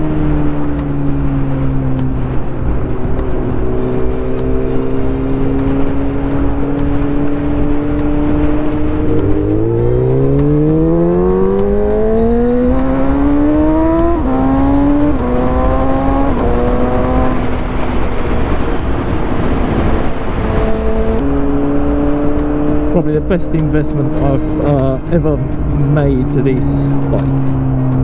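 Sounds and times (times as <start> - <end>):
wind noise on microphone: 0.0 - 22.9
motorcycle engine accelerating: 0.0 - 28.0.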